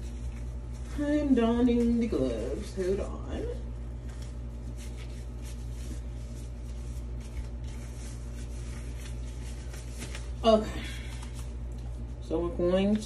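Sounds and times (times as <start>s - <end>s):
gloves rustling: 0.0s - 12.2s
steady low hum: 0.0s - 13.0s.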